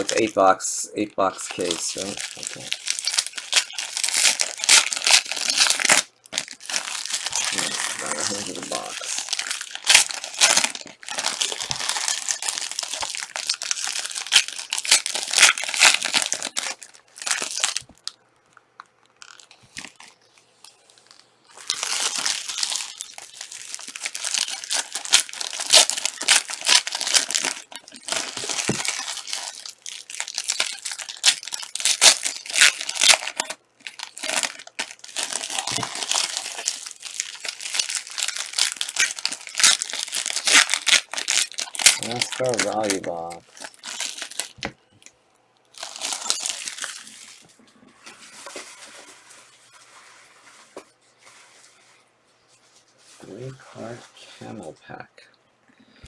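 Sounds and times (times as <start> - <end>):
plastic wrappers crinkling and tearing: 0.0 - 0.5, 1.2 - 49.8.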